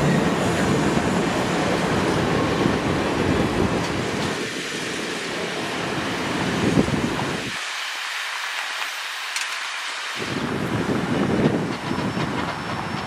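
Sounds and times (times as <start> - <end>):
steam train wheel clatter: 0.0 - 5.5, 7.4 - 13.0.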